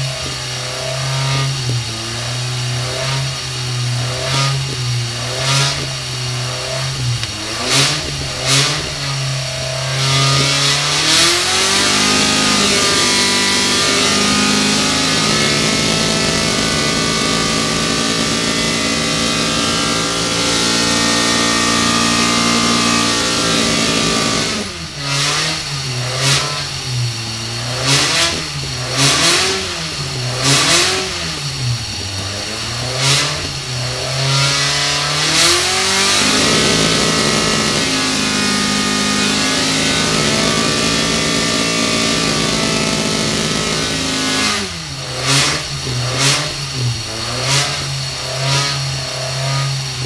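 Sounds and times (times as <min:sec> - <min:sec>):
race engine revving: 0:00.0 - 0:50.0.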